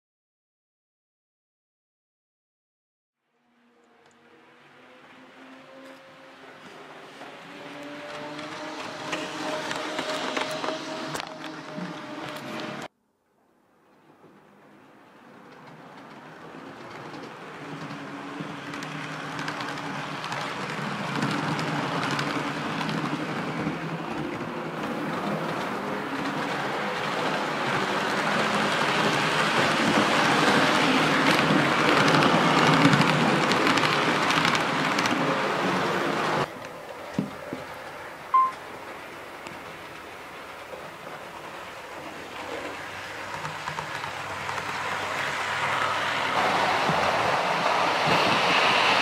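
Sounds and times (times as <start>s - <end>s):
model train wheels rolling: 4.0s - 12.9s, 13.8s - 49.0s.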